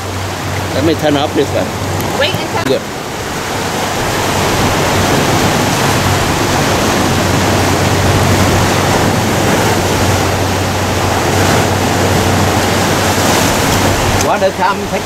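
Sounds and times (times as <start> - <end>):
surf breaking on rocks: 0.0 - 15.0.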